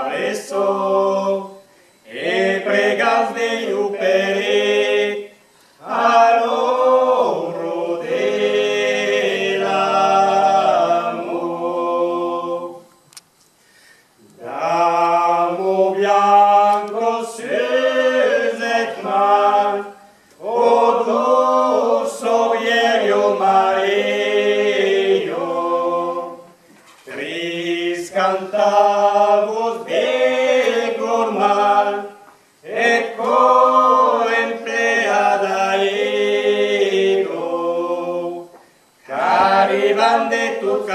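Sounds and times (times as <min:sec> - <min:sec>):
group singing a cappella: 0:00.0 - 0:13.0, 0:14.2 - 0:40.9.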